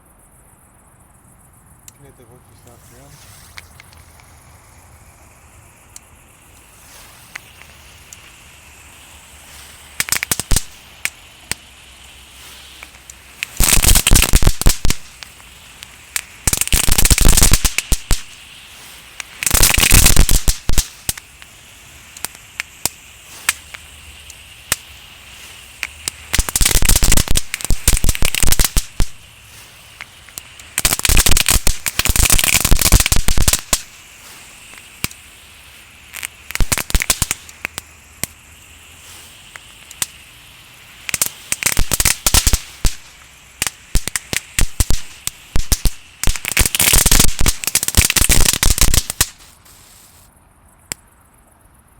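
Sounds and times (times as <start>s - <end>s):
firecrackers crackling: 1.9s - 50.3s
single firecracker pops: 5.9s - 40.3s, 41.0s - 50.3s.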